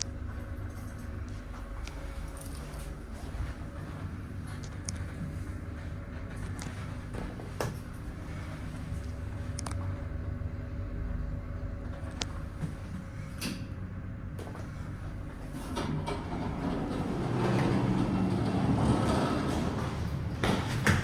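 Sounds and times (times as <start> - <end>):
elevator low hum: 0.0 - 21.0.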